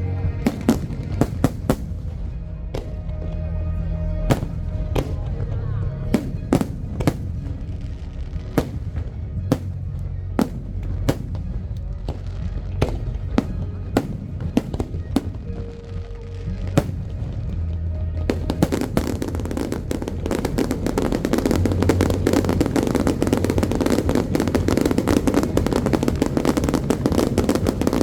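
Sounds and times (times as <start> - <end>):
fireworks bursting: 0.0 - 28.0
music with low bass: 0.0 - 28.0.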